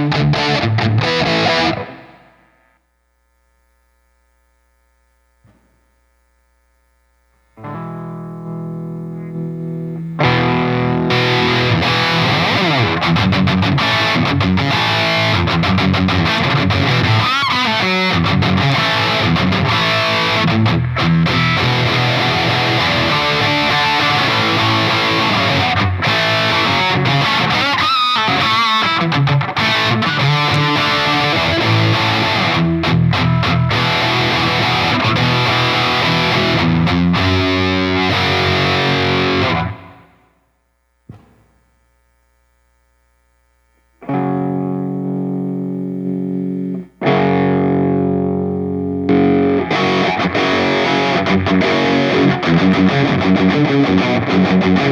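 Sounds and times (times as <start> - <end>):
electric guitar playing: 0.0 - 2.5, 7.6 - 40.4, 44.0 - 54.9.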